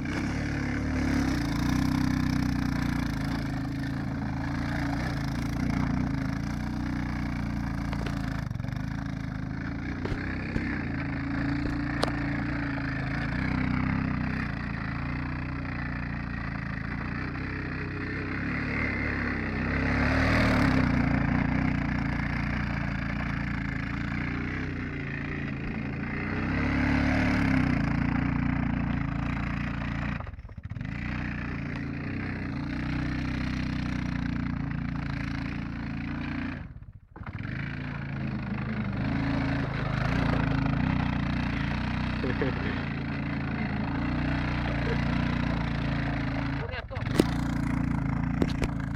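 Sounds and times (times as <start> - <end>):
atv engine revving: 0.0 - 48.9.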